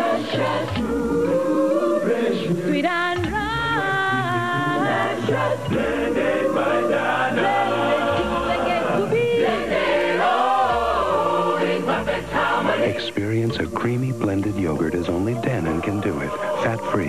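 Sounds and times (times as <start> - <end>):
group singing a jingle in harmony: 0.0 - 17.0.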